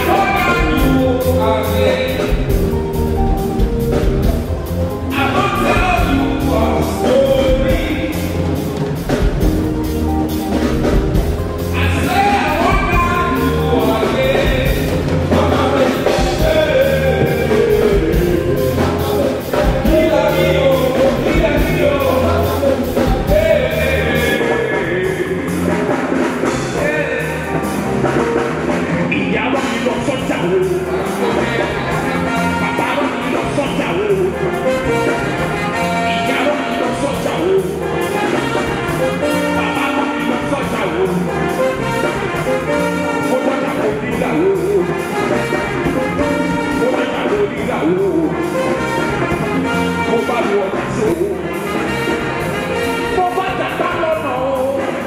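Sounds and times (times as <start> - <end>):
man singing: 0.0 - 4.3, 5.0 - 9.5, 11.6 - 28.2, 28.9 - 55.0
live rock band playing: 0.0 - 55.0.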